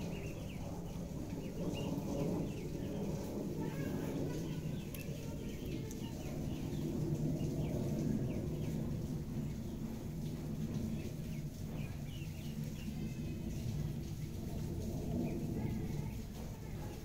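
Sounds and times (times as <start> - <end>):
birds chirping: 0.0 - 16.6
low outdoor rumble: 0.0 - 17.0.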